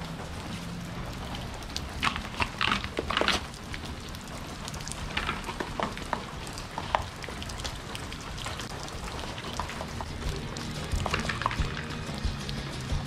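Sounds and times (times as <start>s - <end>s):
raindrop ticks: 0.0s - 13.0s
steady rain falling: 0.0s - 13.0s.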